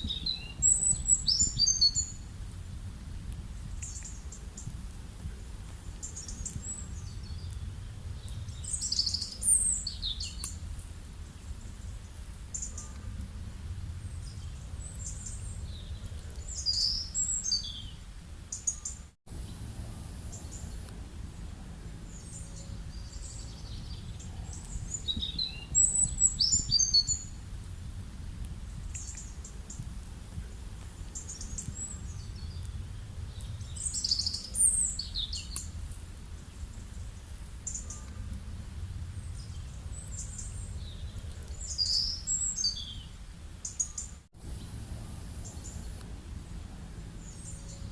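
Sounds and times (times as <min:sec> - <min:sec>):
small birds chirping: 0:00.0 - 0:02.4, 0:03.3 - 0:27.7, 0:28.4 - 0:47.9
low background rumble: 0:00.0 - 0:18.6, 0:19.3 - 0:47.9.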